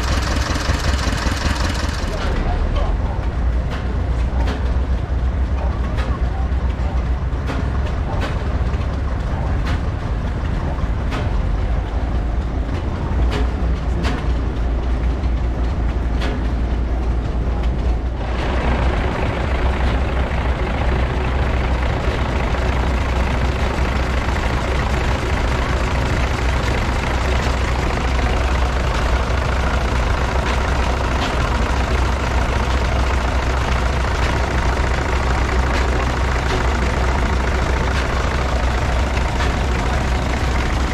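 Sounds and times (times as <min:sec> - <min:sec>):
diesel engine driving generator: 0:00.0 - 0:40.9
stationary engine exhaust beat: 0:00.0 - 0:40.9.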